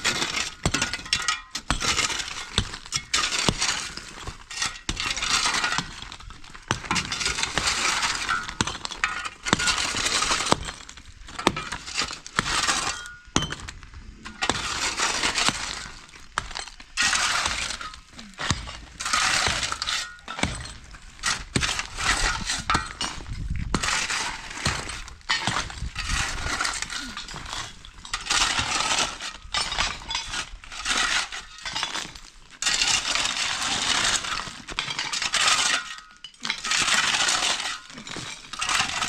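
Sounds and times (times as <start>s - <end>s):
rubble clattering and breaking: 0.0s - 39.0s.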